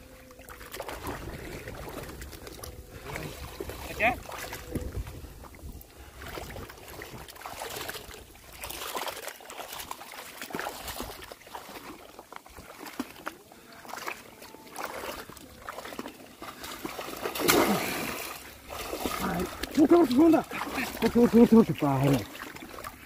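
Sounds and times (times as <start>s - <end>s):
water sloshing and splashing: 0.0s - 23.0s.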